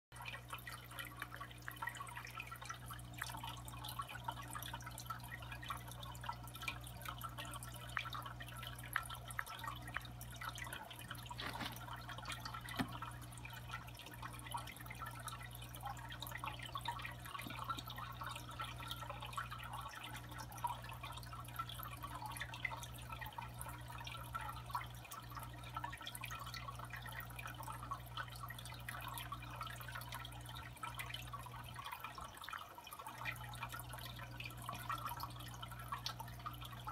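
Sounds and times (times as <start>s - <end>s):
low electrical hum: 0.2s - 36.9s
water dripping: 0.2s - 36.9s.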